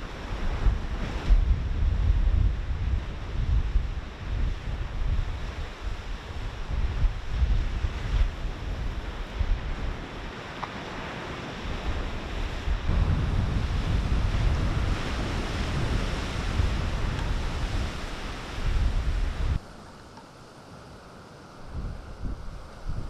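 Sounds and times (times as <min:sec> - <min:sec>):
wind gusting on microphone: 0:00.0 - 0:20.0, 0:21.4 - 0:23.0
sea surf washing onto beach: 0:00.0 - 0:23.0.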